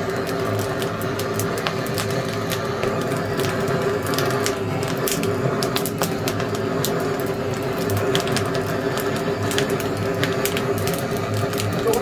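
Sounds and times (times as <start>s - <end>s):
steady hum: 0.0s - 12.0s
wood fire crackling: 0.0s - 12.0s.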